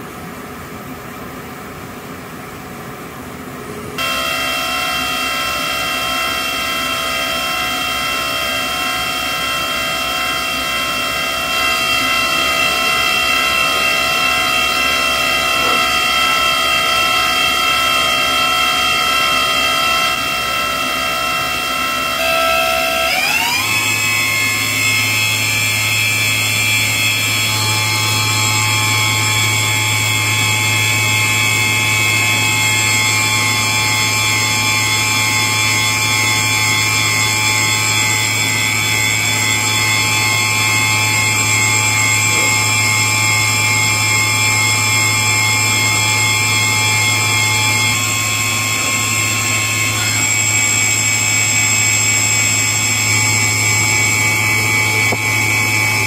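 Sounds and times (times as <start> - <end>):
tool grinder high-pitched whine: 4.0 - 56.0.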